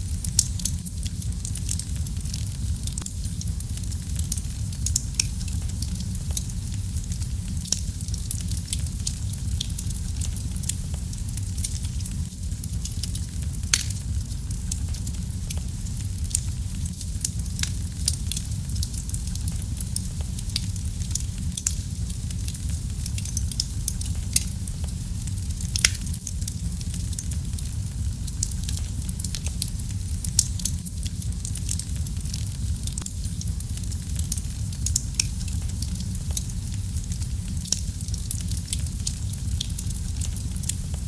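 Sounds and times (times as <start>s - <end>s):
fire crackling and popping: 0.0s - 41.0s
wood fire flames rumbling: 0.0s - 41.0s.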